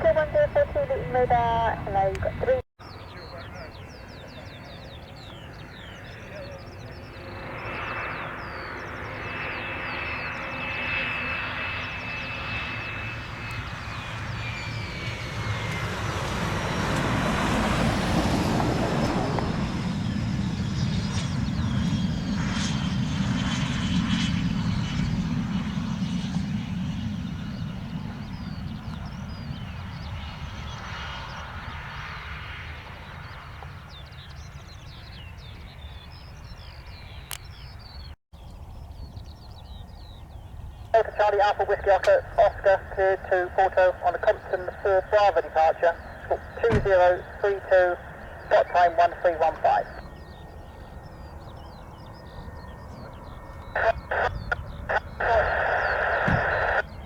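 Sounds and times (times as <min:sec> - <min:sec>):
jet plane passing: 0:00.0 - 0:57.0.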